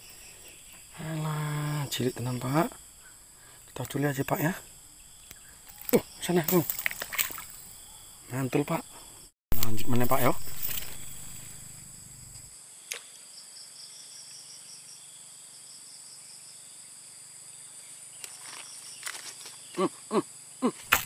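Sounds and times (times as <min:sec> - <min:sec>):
insects buzzing: 0:00.0 - 0:21.0.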